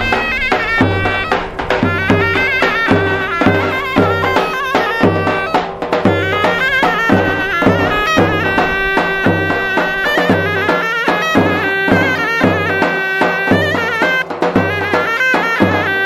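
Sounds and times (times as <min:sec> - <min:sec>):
reedy wind instrument melody: 0:00.0 - 0:16.0
steady drum beat: 0:00.0 - 0:16.0.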